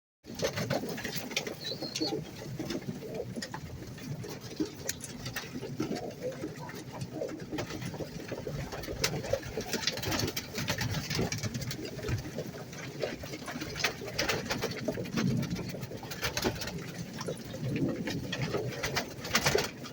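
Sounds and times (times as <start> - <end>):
pigeons cooing: 0.3 - 19.9.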